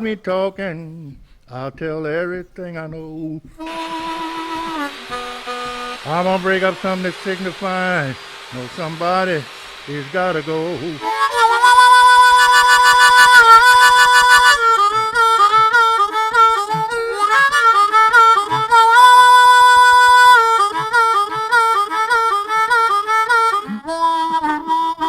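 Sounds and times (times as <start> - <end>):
backing music track: 2.6 - 25.0
blues harmonica solo: 3.5 - 25.0.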